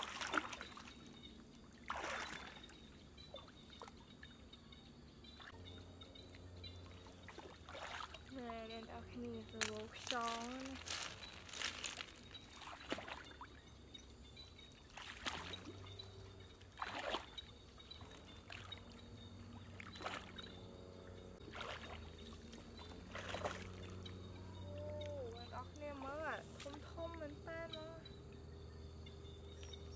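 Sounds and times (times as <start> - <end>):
splashing through shallow water: 0.0 - 4.4, 6.8 - 13.8, 14.6 - 27.4.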